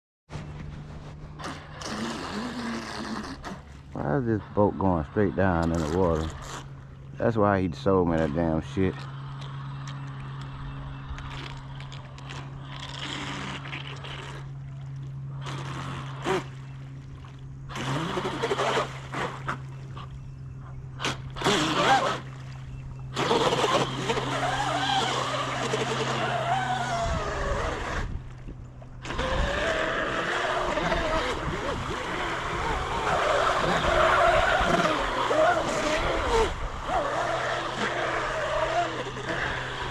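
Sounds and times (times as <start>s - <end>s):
electric boat motor whine: 0.3s - 39.9s.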